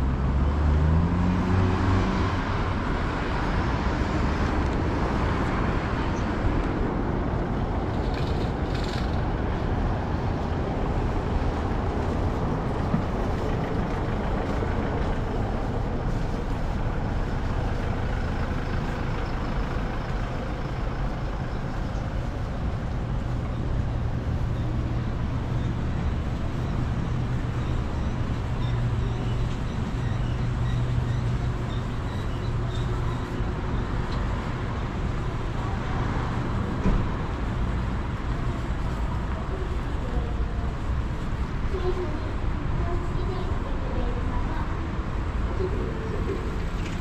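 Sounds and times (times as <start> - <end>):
road traffic: 0.0 - 47.0
vehicle engine hum passing: 0.0 - 47.0.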